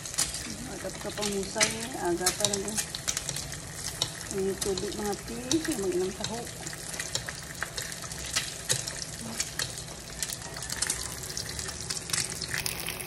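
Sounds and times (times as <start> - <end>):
food sizzling in hot oil: 0.0 - 13.0
oil crackling and popping: 0.0 - 13.0.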